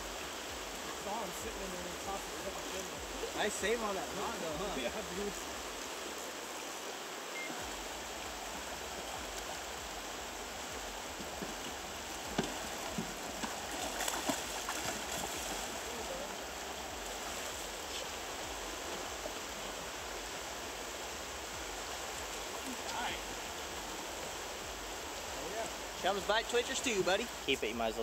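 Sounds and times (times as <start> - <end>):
fast river water rushing: 0.0 - 28.0.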